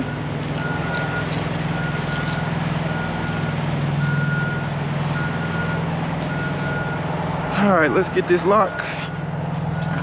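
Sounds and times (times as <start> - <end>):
diesel truck engine running: 0.0 - 10.0
truck reversing alarm beeping: 0.0 - 10.0.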